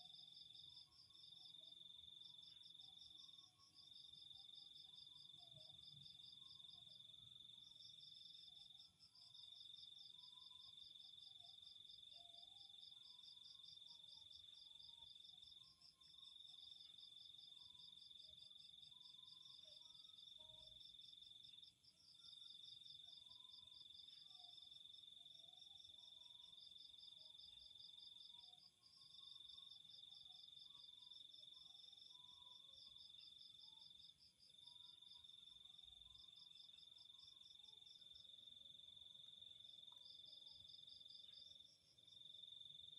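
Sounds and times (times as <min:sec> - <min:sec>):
steady high insect trill: 0:00.0 - 0:42.9.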